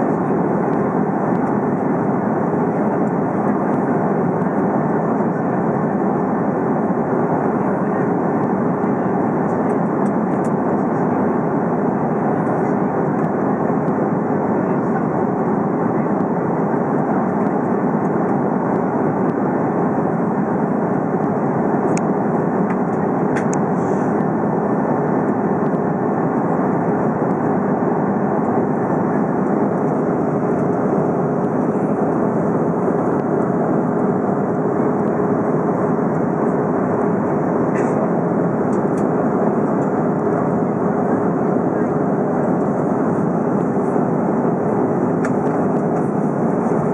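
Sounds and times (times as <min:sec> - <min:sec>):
airliner cabin engine roar: 0:00.0 - 0:46.9.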